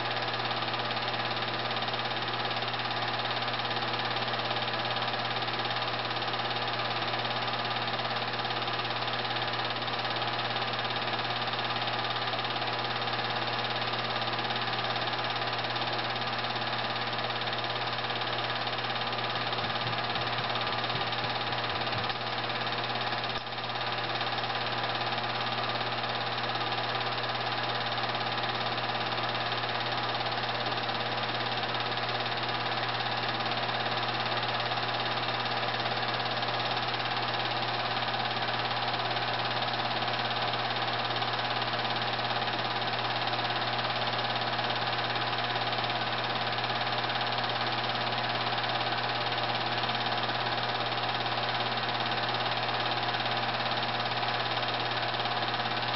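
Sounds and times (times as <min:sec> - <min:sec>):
film projector whirring: 0:00.0 - 0:55.9.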